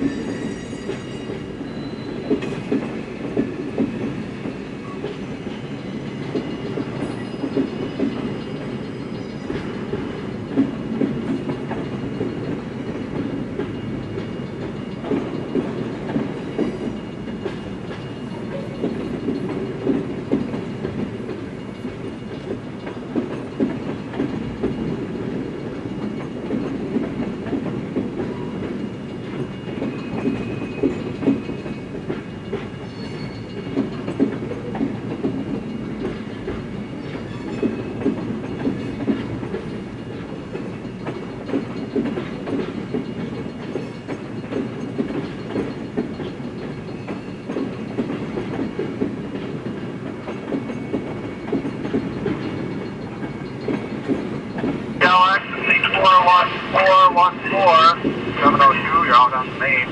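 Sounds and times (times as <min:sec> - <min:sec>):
freight train rumbling past: 0:00.0 - 0:59.9
wheels clacking over rail joints: 0:00.9 - 0:59.9.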